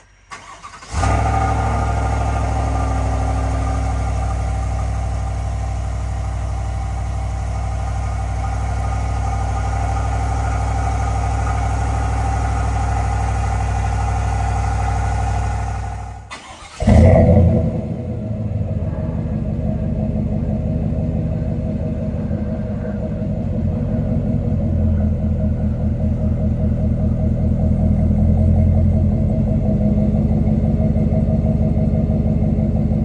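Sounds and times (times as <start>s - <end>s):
louder exhaust start and idle: 0.0s - 33.0s
truck engine starting and idling: 0.0s - 33.0s.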